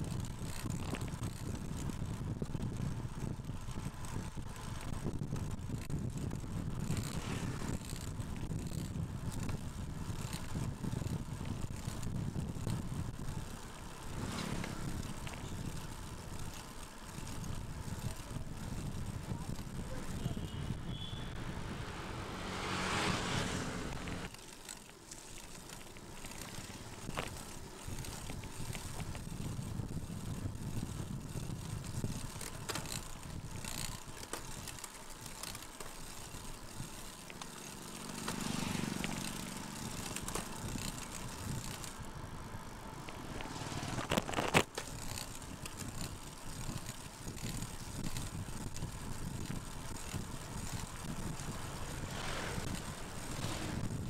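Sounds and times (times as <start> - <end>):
wind and tyre noise: 0.0 - 54.0.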